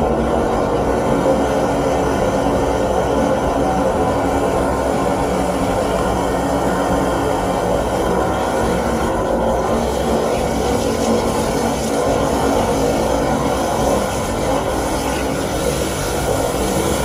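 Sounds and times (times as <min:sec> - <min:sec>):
cable churning water in pipe: 0:00.0 - 0:17.0
drain-cleaning machine running: 0:00.0 - 0:17.0.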